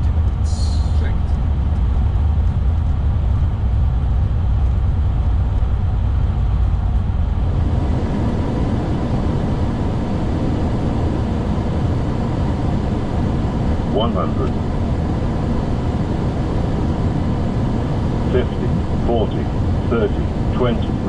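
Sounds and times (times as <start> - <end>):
air noise: 0.0 - 21.0
aircraft cockpit engine rumble: 0.0 - 21.0.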